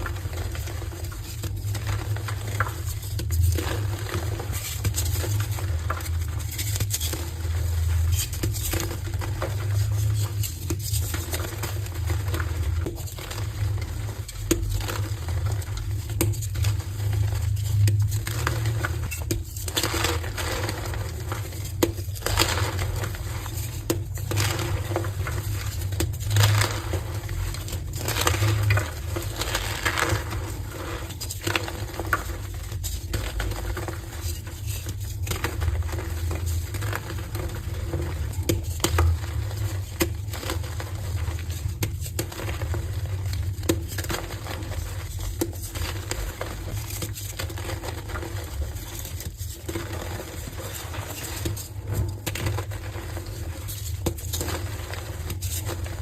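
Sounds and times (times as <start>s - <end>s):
chalk crunching and crumbling: 0.0s - 56.0s.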